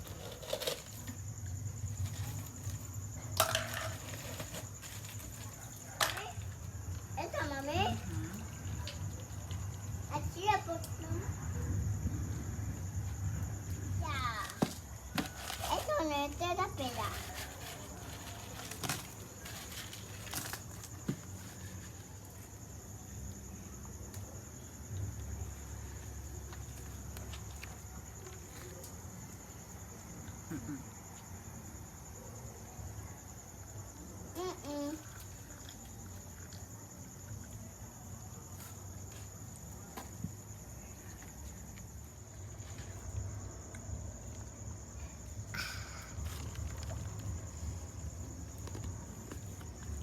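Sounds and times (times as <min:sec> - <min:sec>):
insects trilling: 0:00.0 - 0:50.0.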